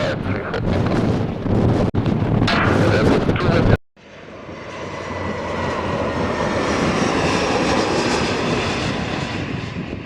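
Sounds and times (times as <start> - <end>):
airliner passing by: 0.0 - 10.0.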